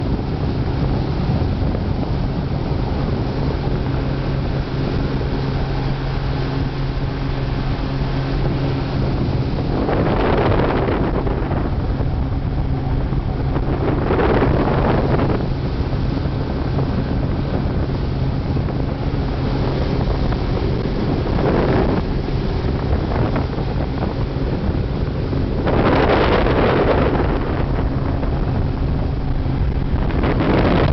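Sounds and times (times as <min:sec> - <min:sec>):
ferry engine droning: 0:00.0 - 0:30.9
wind buffeting microphone: 0:00.0 - 0:30.9.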